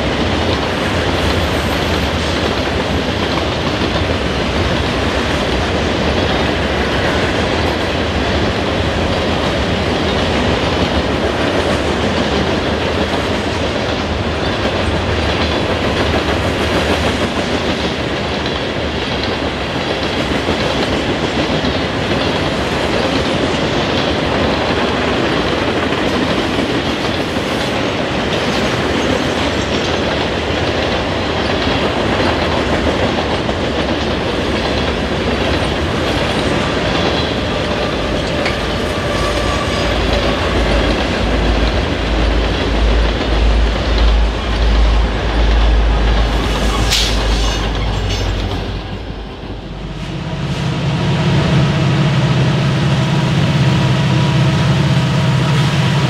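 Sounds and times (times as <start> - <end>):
freight train wheels clacking: 0.0 - 56.0
heavy train rumble: 0.0 - 56.0.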